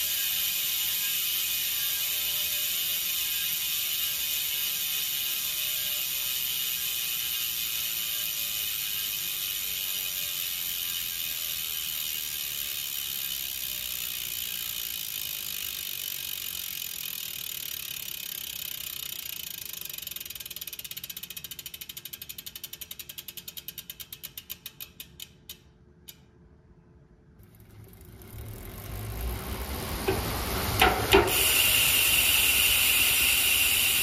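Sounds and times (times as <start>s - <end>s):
bicycle hub freewheel buzzing: 0.0s - 26.2s, 27.4s - 34.0s.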